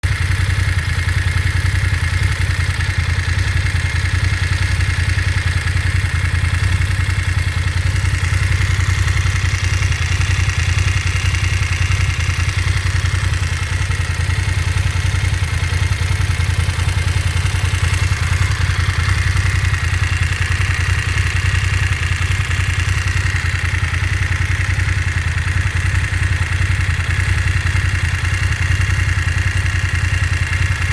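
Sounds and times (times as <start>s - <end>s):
motorcycle engine running steadily: 0.0s - 30.9s.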